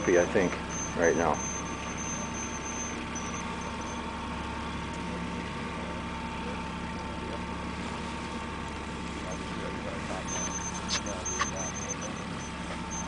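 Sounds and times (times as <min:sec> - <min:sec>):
boat engine idling: 0:00.0 - 0:13.0
higher engine whine: 0:00.0 - 0:13.0.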